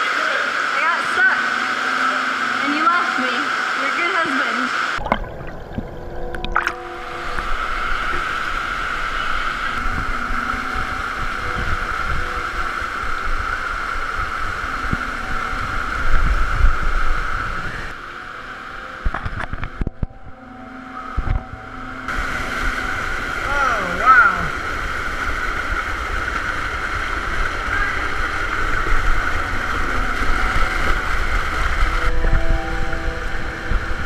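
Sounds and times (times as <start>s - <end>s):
stream rushing over rocks: 0.0s - 19.6s, 22.1s - 34.0s.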